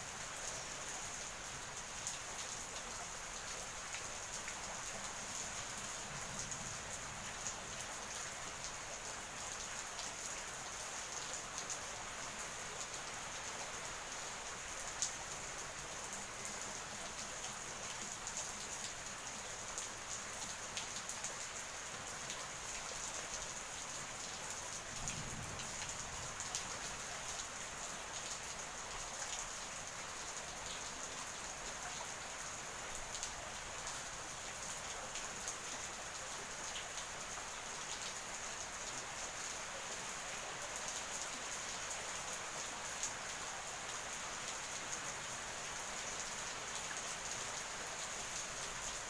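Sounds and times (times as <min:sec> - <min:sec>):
steady rain hiss: 0:00.0 - 0:49.0.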